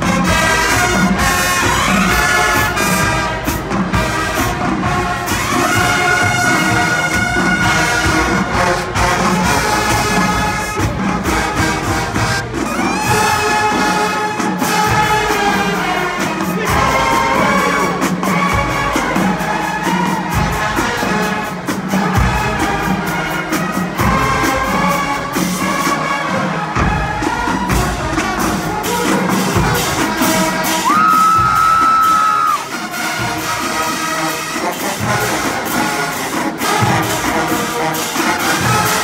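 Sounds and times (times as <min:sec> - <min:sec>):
brass chords: 0:00.0 - 0:39.0
drumline beat: 0:00.0 - 0:39.0.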